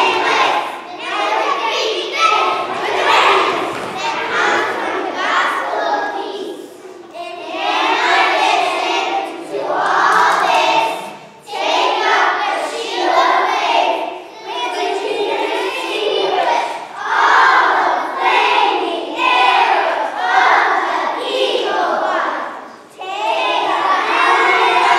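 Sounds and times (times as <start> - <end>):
children singing in unison: 0.0 - 24.9.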